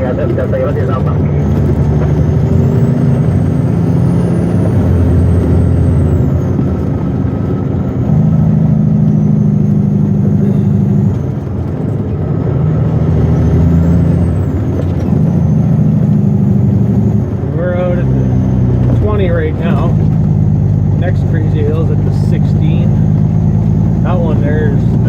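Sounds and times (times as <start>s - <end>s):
truck diesel engine under load: 0.0s - 25.0s.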